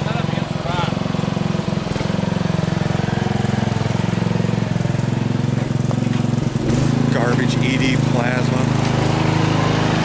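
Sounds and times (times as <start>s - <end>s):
lawn tractor engine running: 0.0s - 10.0s.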